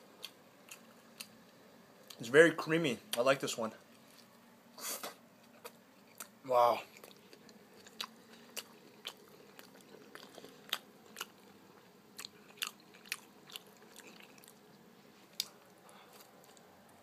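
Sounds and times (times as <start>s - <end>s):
person chewing food: 0.2s - 2.2s, 5.0s - 17.0s.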